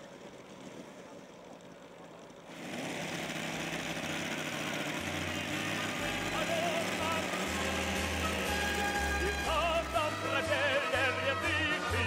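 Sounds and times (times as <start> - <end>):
model airplane engine running: 0.0 - 11.2.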